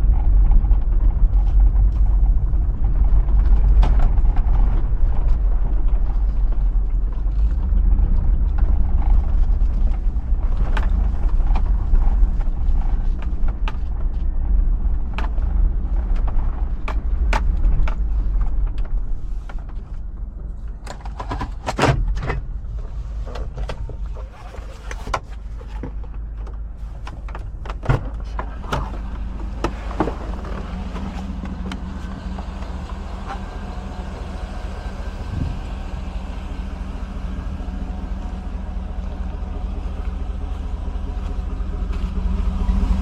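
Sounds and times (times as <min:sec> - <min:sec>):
knocks and rattles: 0:00.0 - 0:36.2
suv engine rumbling: 0:00.0 - 0:43.0.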